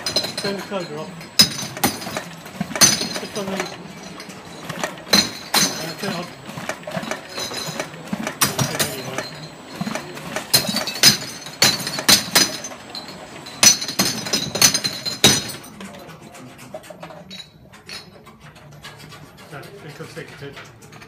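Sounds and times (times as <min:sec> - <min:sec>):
glass bottles clinking: 0:00.0 - 0:18.8.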